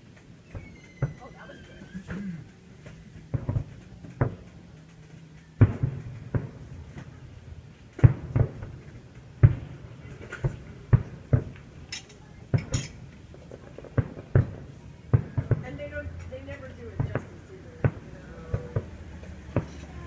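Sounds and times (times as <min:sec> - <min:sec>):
fireworks shells booming: 0:00.0 - 0:20.0.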